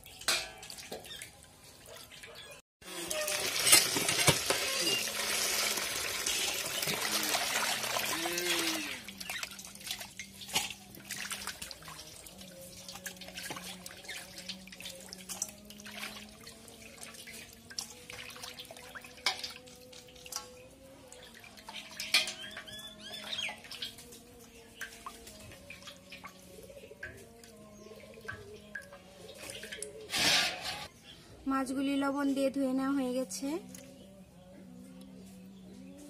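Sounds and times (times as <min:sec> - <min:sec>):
water sloshing in steel bowl: 0:00.0 - 0:02.3, 0:02.9 - 0:30.9
water dripping: 0:00.0 - 0:02.4, 0:03.0 - 0:30.0.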